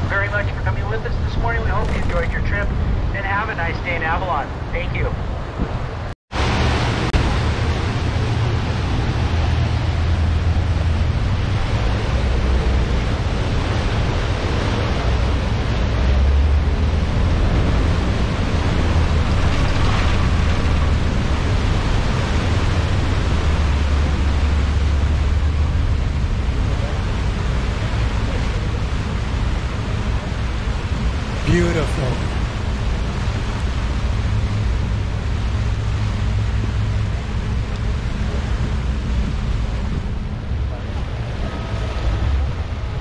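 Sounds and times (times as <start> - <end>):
churning wake water: 0.0 - 43.0
ferry engines rumbling: 0.0 - 43.0.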